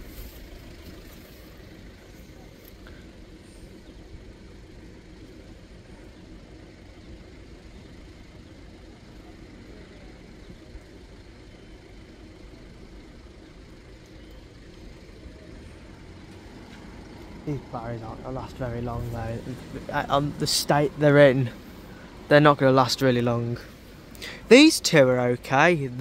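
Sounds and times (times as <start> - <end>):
low rumbling roadside hum: 0.0 - 26.0.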